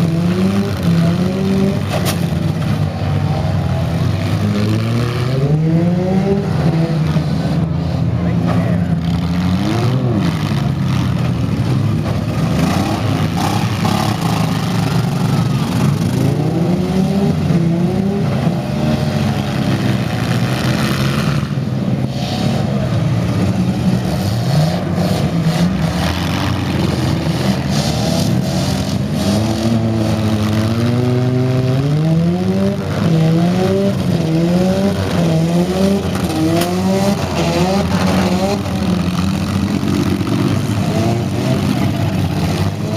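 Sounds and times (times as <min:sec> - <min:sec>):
car engines revving hard: 0:00.0 - 0:42.9.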